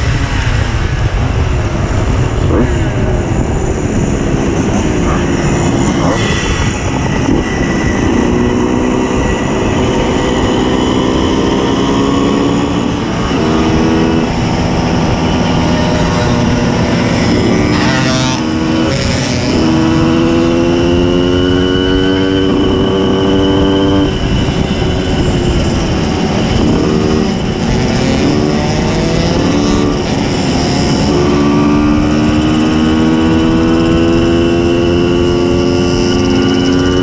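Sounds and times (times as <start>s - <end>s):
two-stroke moped engine running hard: 4.3s - 37.0s.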